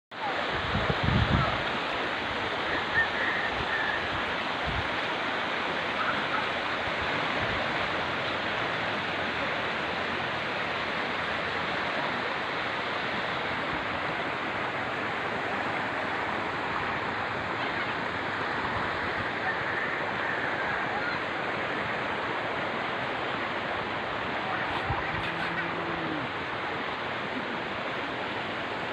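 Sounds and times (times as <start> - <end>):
floodwater rushing: 0.1 - 28.9.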